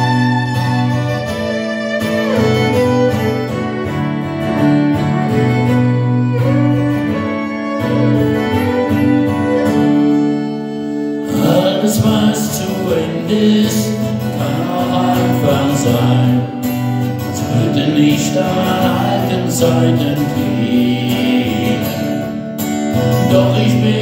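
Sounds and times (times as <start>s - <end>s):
acoustic guitar accompaniment: 0.0s - 24.0s
violin playing slow melody: 0.0s - 24.0s.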